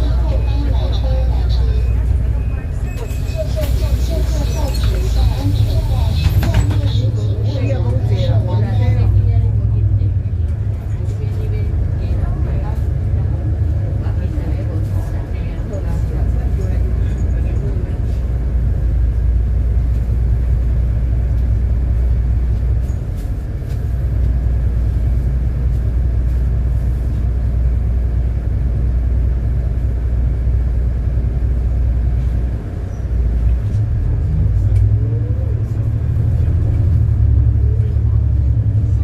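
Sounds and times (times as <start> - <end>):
bus engine and road noise: 0.0 - 39.0.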